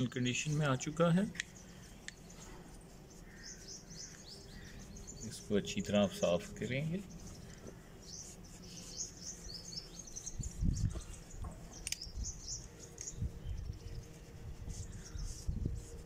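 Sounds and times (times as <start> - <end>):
cloth rubbing on revolver: 0.0 - 13.0, 13.8 - 16.0
small birds chirping: 0.0 - 16.0.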